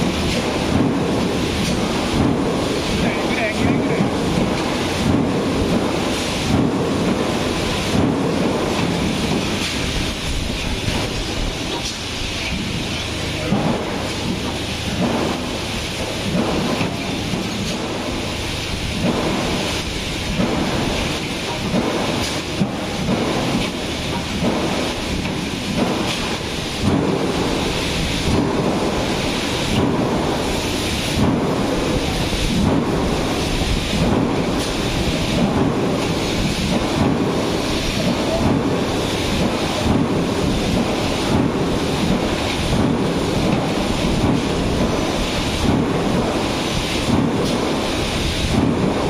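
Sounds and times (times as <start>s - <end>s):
machine rumbling: 0.0s - 49.0s.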